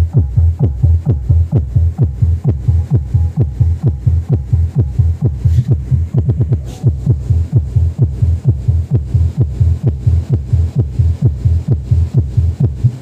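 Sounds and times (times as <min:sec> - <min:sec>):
deep bass thumps: 0:00.0 - 0:13.0.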